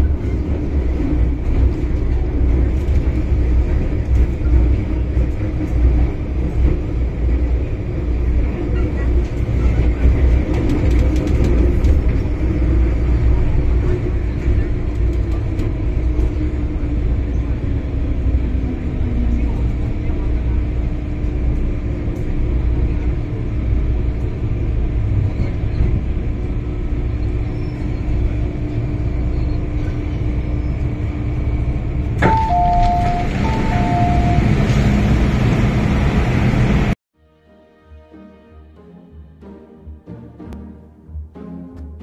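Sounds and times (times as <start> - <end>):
steady train hum: 0.0 - 37.0
train running rumble: 0.0 - 37.0.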